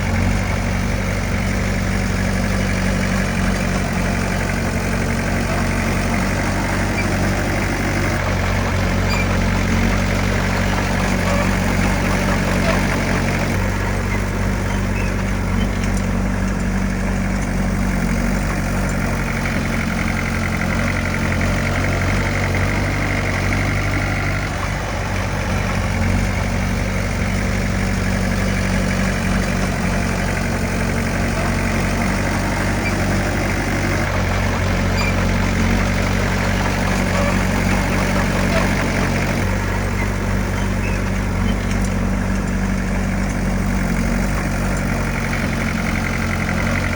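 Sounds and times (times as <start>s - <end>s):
heavy machinery diesel engine: 0.0s - 46.9s.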